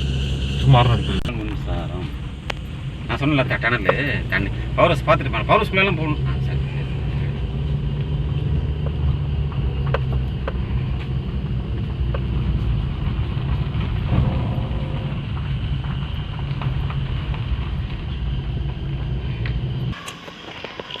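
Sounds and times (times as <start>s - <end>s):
vehicle engine and road rumble: 0.0s - 21.0s.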